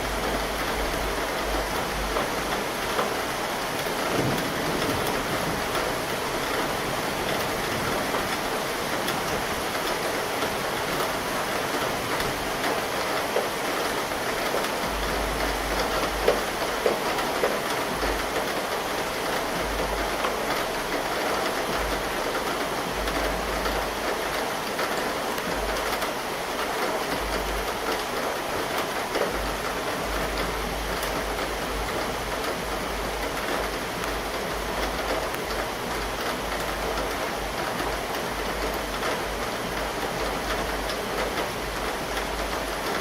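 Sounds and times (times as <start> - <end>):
steady rain hissing: 0.0 - 43.0.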